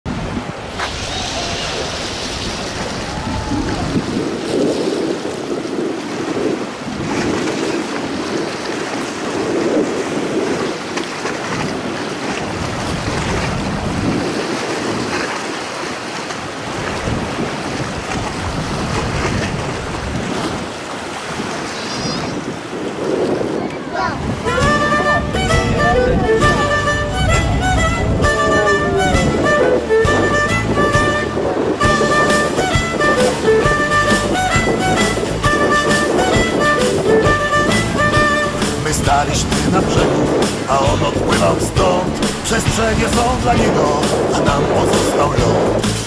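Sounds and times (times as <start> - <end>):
sea waves washing: 0.1 - 46.0
wind gusts on microphone: 0.1 - 46.0.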